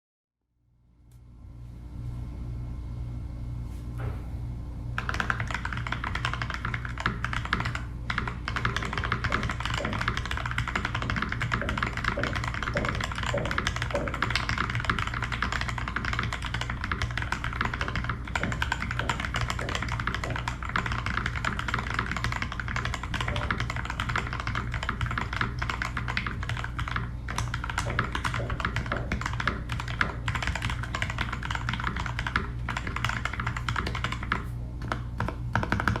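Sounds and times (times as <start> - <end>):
mechanical keyboard typing: 5.0 - 36.0.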